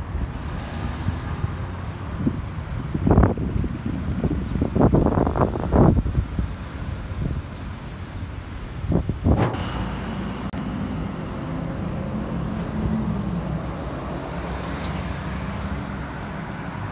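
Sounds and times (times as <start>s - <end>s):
road noise: 0.0s - 16.9s
electric bus humming: 3.1s - 16.9s.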